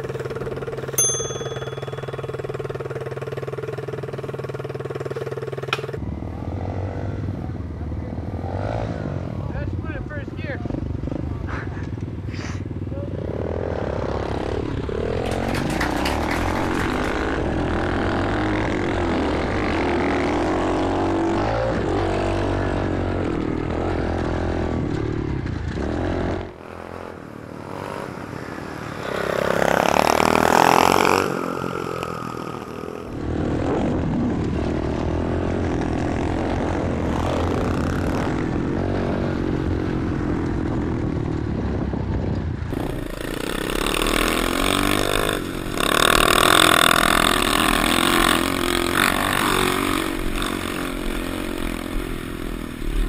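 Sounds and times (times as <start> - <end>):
pit bike engines revving: 0.0 - 53.0
rushing wind: 6.0 - 53.0.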